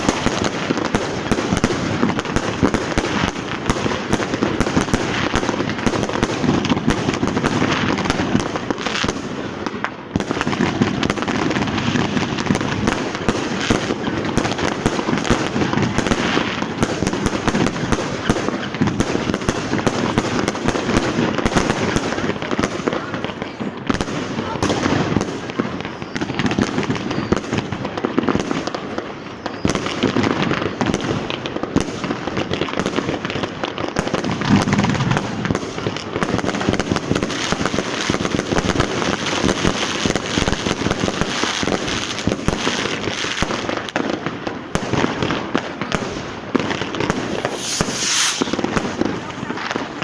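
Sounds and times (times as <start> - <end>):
firecrackers crackling and banging: 0.0 - 50.0.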